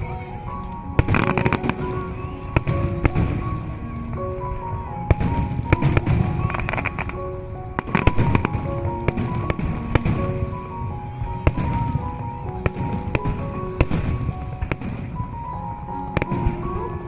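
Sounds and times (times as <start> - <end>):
music playing: 0.0 - 17.0.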